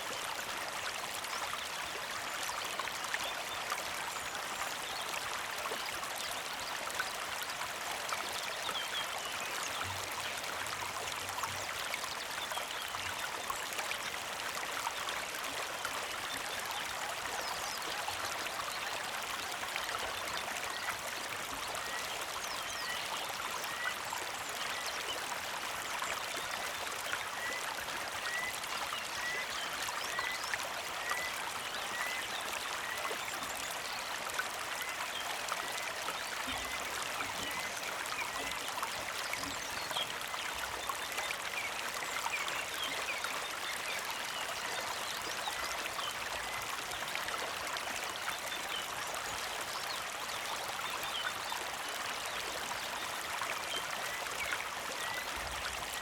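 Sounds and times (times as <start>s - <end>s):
creek trickling: 0.0s - 56.0s.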